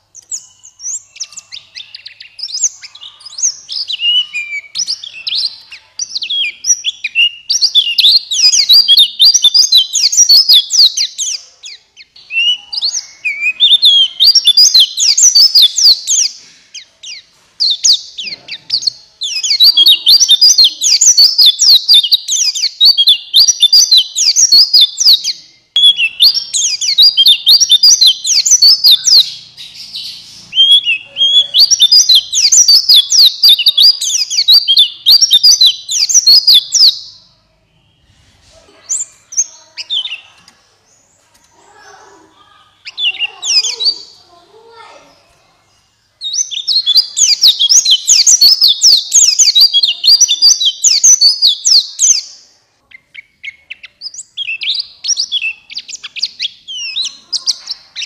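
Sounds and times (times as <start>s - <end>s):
bird twittering song: 0.0s - 58.0s.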